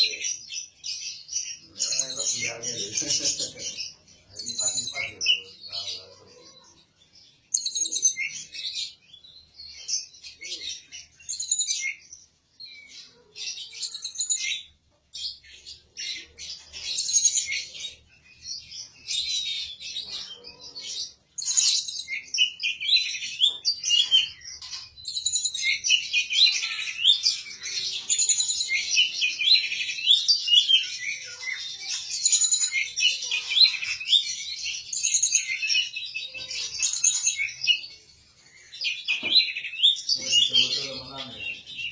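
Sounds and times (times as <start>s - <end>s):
songbird chirping and trilling: 0.0s - 41.9s.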